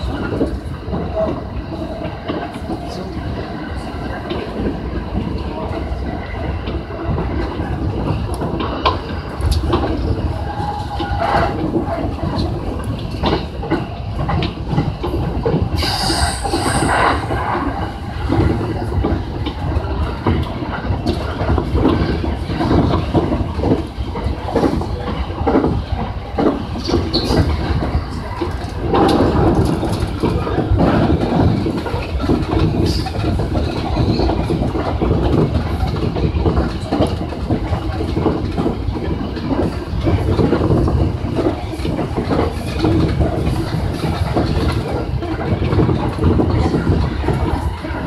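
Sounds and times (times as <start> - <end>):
train wheels clattering over rails: 0.0 - 48.0.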